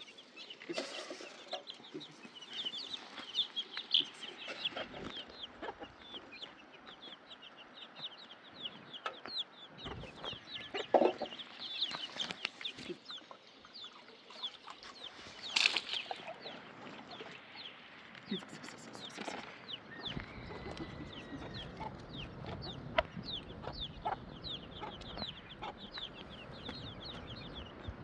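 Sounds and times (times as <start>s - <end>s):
chicken clucking: 0.0s - 28.0s
chicks peeping: 0.0s - 28.0s.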